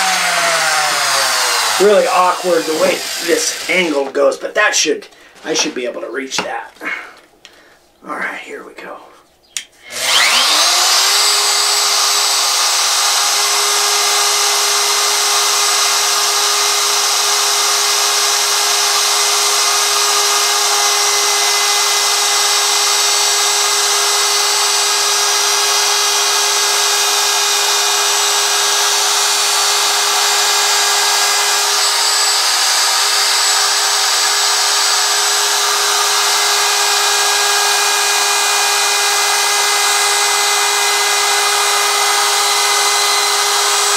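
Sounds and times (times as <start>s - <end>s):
router motor whine: 0.0s - 4.0s, 9.8s - 43.9s
router bit cutting wood: 0.0s - 4.7s, 9.8s - 43.9s.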